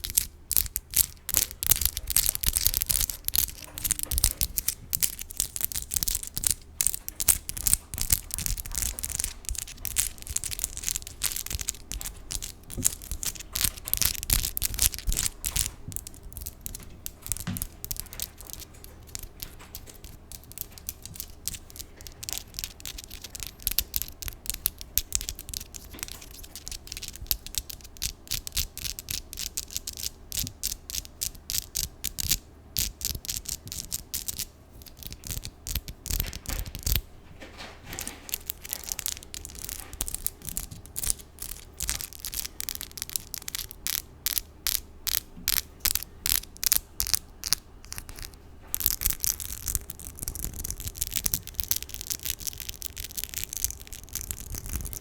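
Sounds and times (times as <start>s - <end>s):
long nails tapping and scratching: 0.0s - 55.0s.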